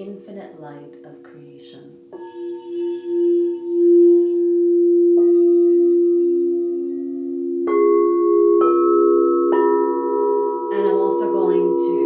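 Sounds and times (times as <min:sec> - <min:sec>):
singing bowl struck: 0:02.1 - 0:12.0
singing bowls ringing: 0:02.1 - 0:12.0.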